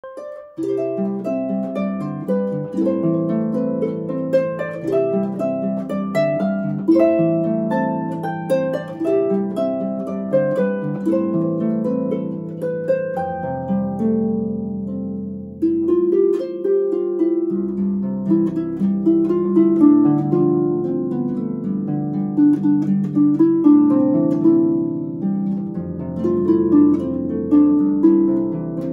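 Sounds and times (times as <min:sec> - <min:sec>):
solo harp playing: 0:00.0 - 0:28.9.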